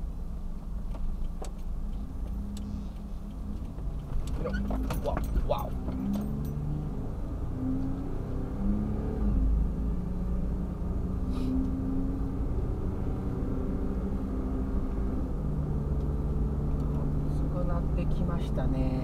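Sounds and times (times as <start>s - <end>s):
road noise inside vehicle: 0.0s - 19.0s
van engine: 0.0s - 19.0s.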